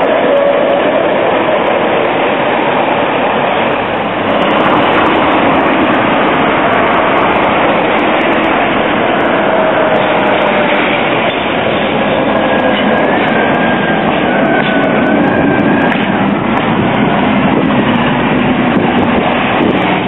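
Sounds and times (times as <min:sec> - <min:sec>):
street traffic noise: 0:00.0 - 0:20.0
tram running on rails: 0:00.0 - 0:20.0.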